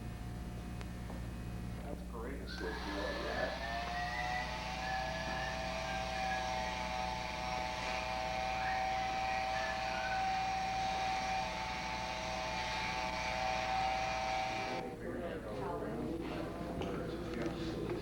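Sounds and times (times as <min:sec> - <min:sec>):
low steady hum: 0:00.0 - 0:18.0
steady mechanical whine: 0:00.0 - 0:18.0.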